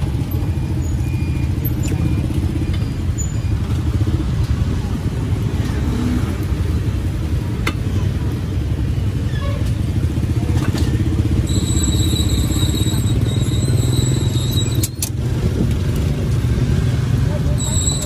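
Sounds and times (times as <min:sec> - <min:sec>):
motorbike engines running: 0:00.0 - 0:18.0
street traffic rumble: 0:00.0 - 0:18.0.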